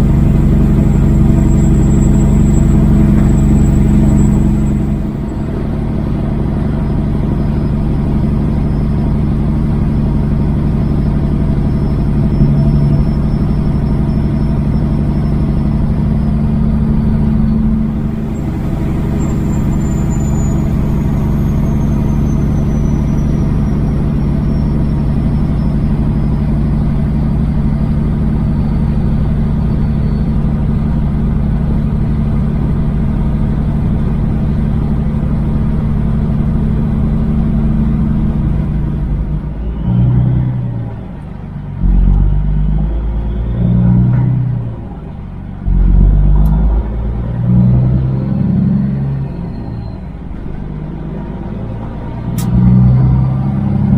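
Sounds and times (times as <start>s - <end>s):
truck diesel engine running: 0.0s - 53.9s.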